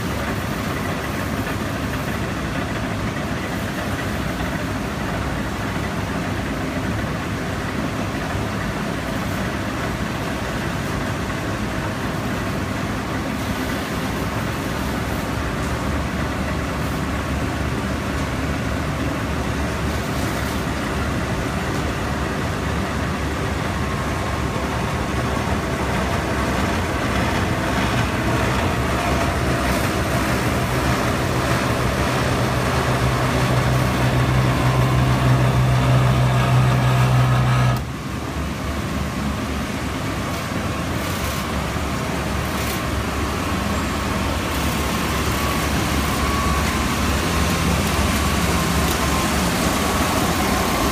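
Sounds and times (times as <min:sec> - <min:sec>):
machine noise: 0:00.0 - 0:50.9.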